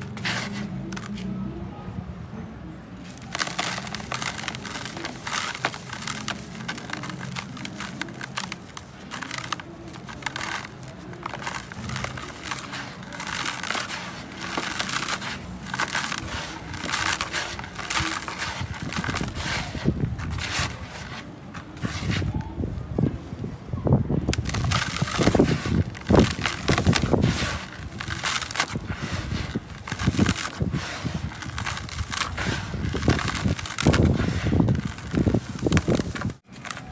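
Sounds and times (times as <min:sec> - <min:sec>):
hands crunching dry dirt: 0:00.0 - 0:01.3, 0:03.0 - 0:22.8, 0:24.2 - 0:36.9.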